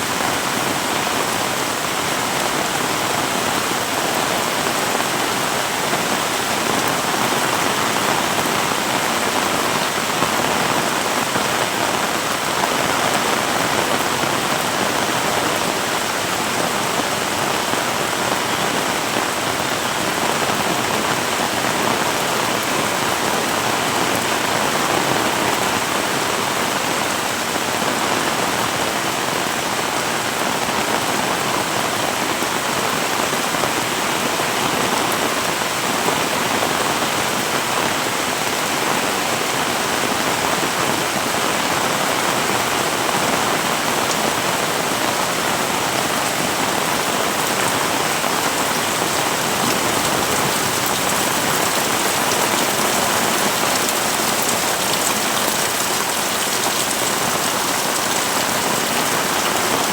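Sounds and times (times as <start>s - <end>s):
heavy rain splashing: 0.0s - 59.9s.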